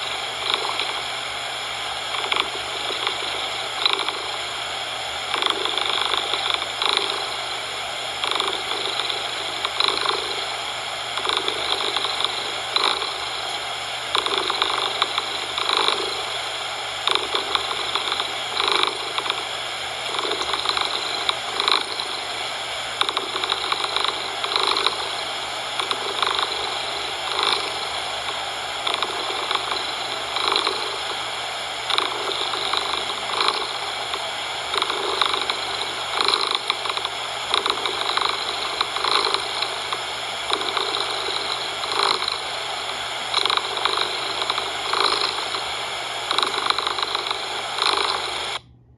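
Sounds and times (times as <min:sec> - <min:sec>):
cat purring: 0:00.0 - 0:01.3, 0:01.9 - 0:04.5, 0:05.2 - 0:48.6
steady noise hiss: 0:00.0 - 0:48.6.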